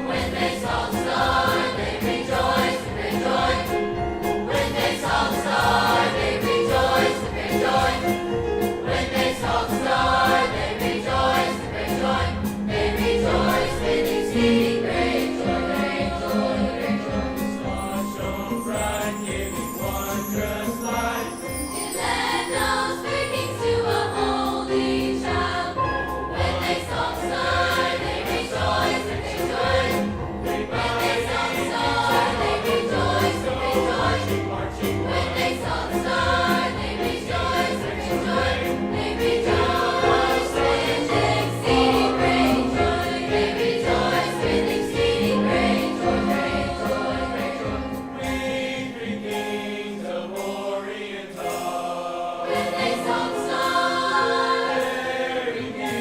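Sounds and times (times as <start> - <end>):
choir singing with accompaniment: 0.0 - 56.0.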